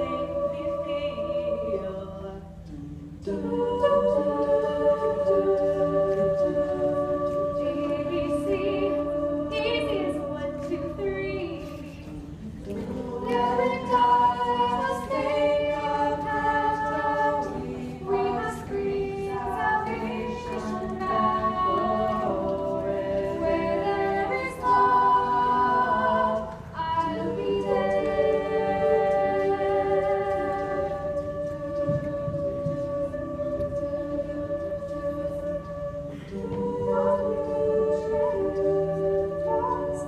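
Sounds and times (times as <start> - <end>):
a cappella choir singing: 0.0 - 40.0.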